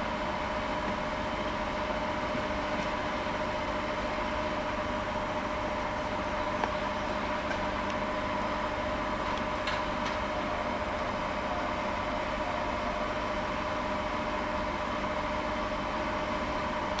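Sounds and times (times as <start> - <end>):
mechanical hum with steady tones: 0.0 - 17.0.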